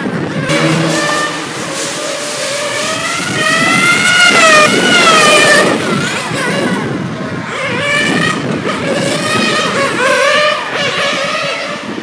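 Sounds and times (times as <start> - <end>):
wind rumbling on microphone: 0.0 - 12.0
rc car engine whining: 0.3 - 12.0.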